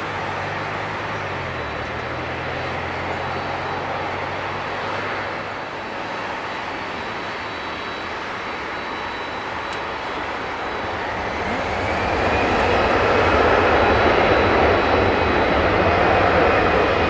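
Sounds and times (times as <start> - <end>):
high engine whine: 0.0 - 17.0
jet engines running: 0.0 - 17.0.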